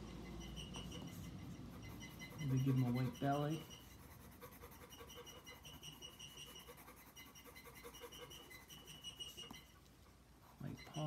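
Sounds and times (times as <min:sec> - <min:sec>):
pencil scratching on paper: 0:00.0 - 0:09.8.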